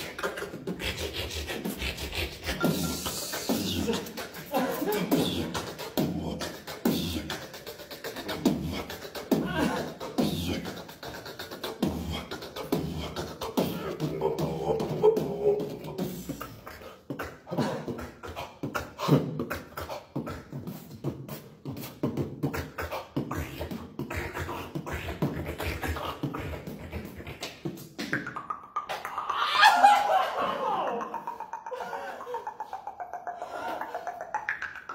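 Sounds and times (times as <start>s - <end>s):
beatboxing: 0.0s - 34.9s
sliding vocal sound: 0.0s - 34.9s.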